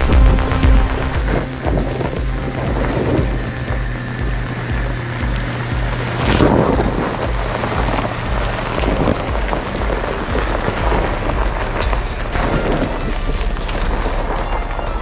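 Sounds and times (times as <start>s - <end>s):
regular low beat: 0.0s - 15.0s
road and tyre noise: 0.0s - 15.0s
sharp ticks: 0.0s - 15.0s.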